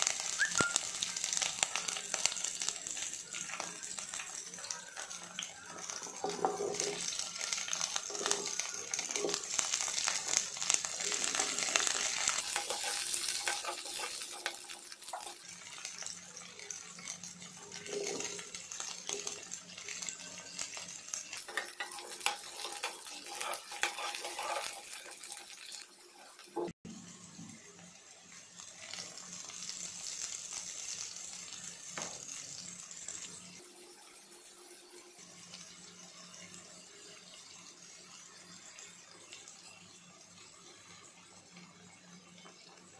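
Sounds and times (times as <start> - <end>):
vegetables sizzling in hot oil: 0.0 - 42.9.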